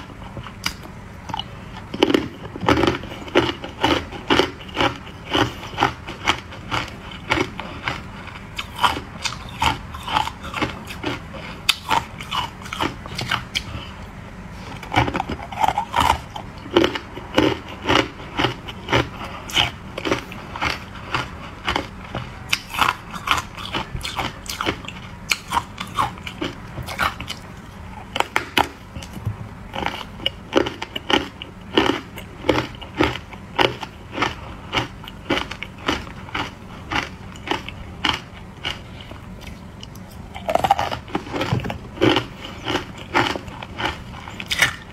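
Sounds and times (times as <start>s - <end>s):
ice crunching being chewed: 0.0s - 44.9s.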